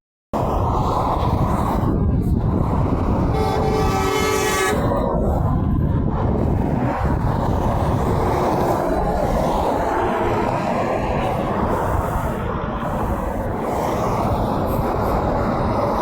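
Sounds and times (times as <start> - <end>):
heavy road traffic rumble: 0.4 - 16.0.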